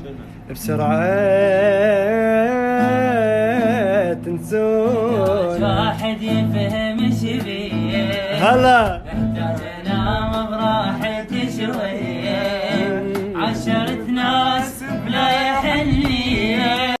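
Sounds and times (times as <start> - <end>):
instrumental backing music: 0.0 - 17.0.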